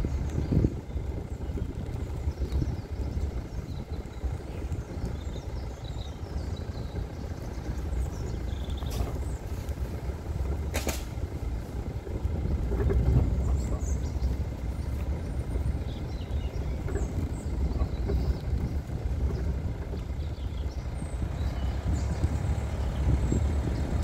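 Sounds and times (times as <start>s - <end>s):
vehicle rumble on rough track: 0.0s - 24.0s.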